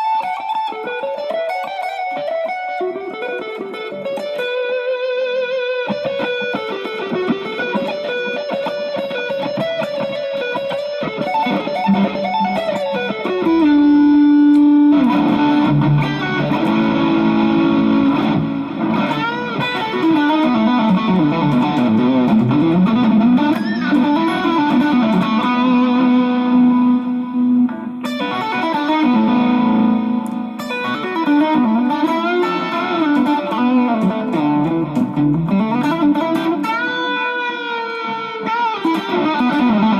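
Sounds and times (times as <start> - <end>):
electric guitar through amplifier: 0.0 - 39.9.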